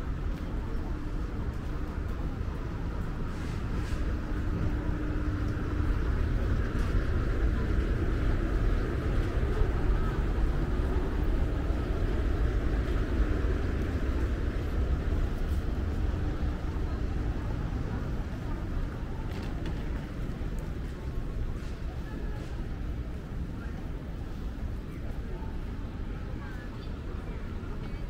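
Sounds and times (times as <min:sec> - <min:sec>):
general hubbub: 0:00.0 - 0:28.0
low traffic rumble: 0:00.0 - 0:28.0.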